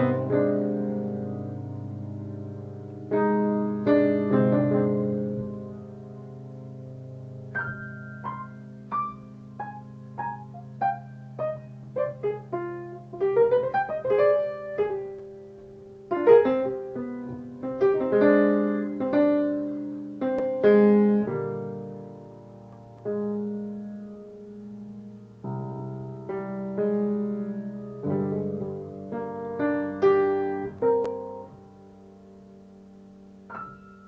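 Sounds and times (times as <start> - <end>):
solo piano music: 0.0 - 34.0.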